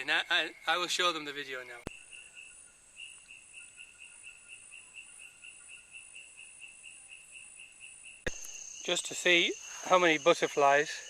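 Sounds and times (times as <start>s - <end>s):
insect chirping: 0.0s - 11.0s
high-pitched insect buzz: 1.9s - 11.0s.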